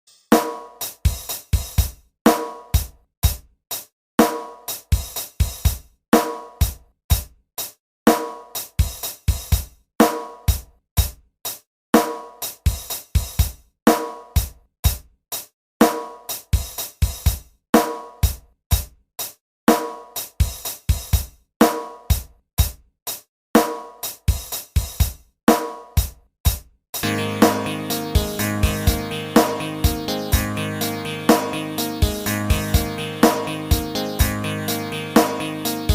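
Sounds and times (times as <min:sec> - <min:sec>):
drum kit beat: 0:00.0 - 0:35.9.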